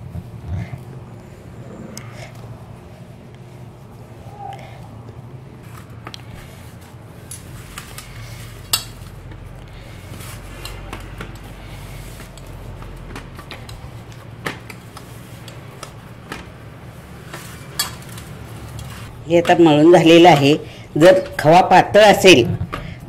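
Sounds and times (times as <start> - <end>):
low hum: 0.0 - 21.4
hands kneading dough: 0.0 - 23.0.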